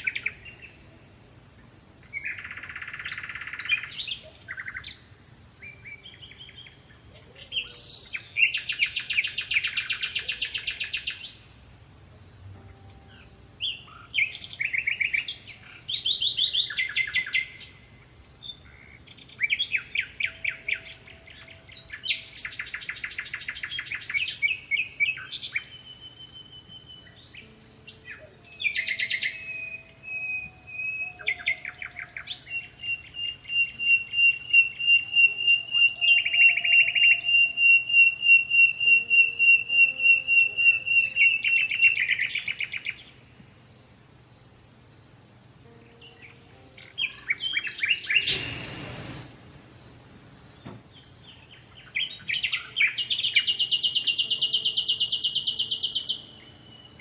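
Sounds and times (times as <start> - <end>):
songbird trills and whistles: 0.0 - 1.0, 1.8 - 5.0, 5.6 - 11.5, 12.6 - 43.2, 45.7 - 49.3, 50.9 - 57.0.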